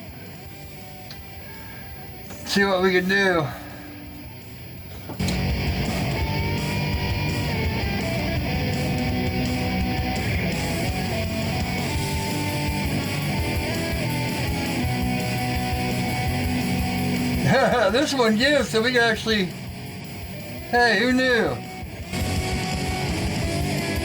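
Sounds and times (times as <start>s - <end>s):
rock music with electric guitar: 0.0s - 24.0s.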